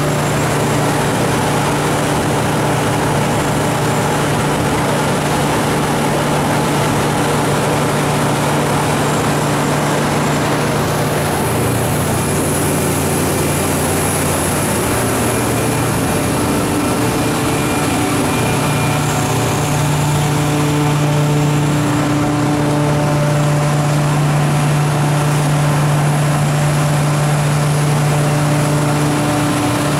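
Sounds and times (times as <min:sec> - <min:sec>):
generator engine humming: 0:00.0 - 0:29.9.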